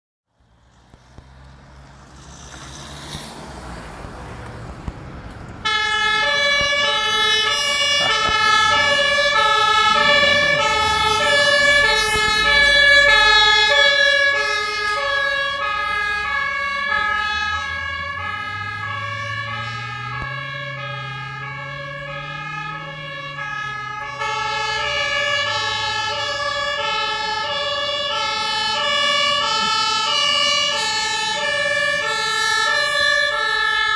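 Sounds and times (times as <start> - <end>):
car passing: 0.4 - 33.9
truck engine revving: 0.8 - 33.9
two-tone fire engine siren: 5.5 - 33.9.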